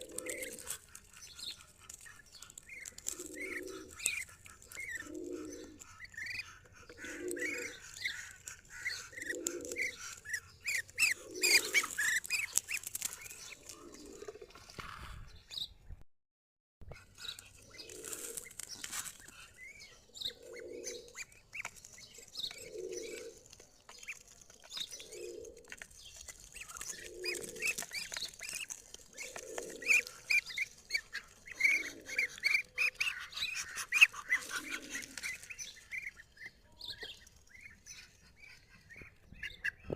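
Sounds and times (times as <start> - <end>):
high bird chirps and clicks: 0.0 - 14.8, 16.9 - 39.9
wings fluttering: 0.0 - 15.2, 17.4 - 19.6, 20.4 - 39.1.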